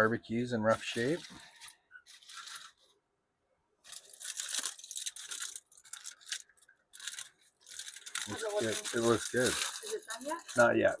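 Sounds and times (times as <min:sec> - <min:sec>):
tinfoil crinkling: 0:00.7 - 0:03.0, 0:03.8 - 0:11.0.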